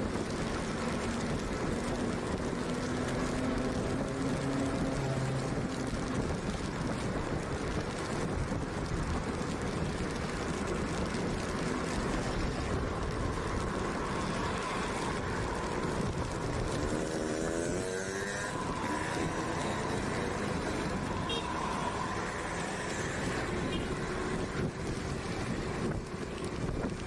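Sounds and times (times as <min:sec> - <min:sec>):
tyre noise on wet road: 0:00.0 - 0:27.0
wind rush over microphone: 0:00.0 - 0:27.0.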